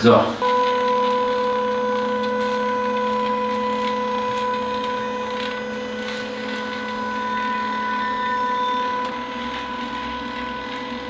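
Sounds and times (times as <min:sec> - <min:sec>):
electric machine hum: 0:00.0 - 0:11.0.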